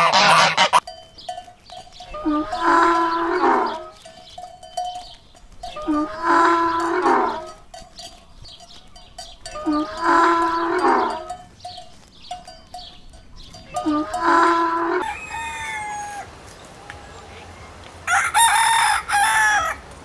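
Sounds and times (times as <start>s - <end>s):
large farm animal calling: 0.0s - 19.9s.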